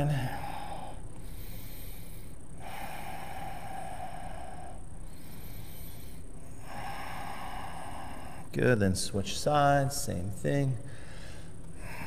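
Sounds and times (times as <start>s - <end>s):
low room hum: 0.0s - 12.0s
soft hiss: 0.0s - 12.0s.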